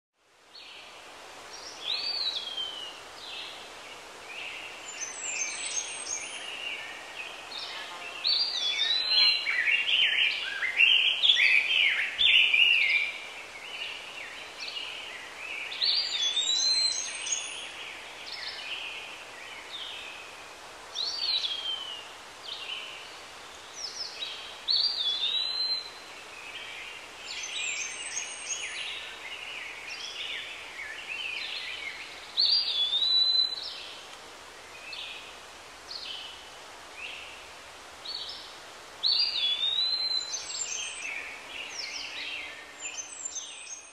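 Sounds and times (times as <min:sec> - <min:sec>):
background hiss: 0:00.2 - 0:43.9
birds singing and calling: 0:04.3 - 0:20.4, 0:21.0 - 0:35.3, 0:38.0 - 0:43.9.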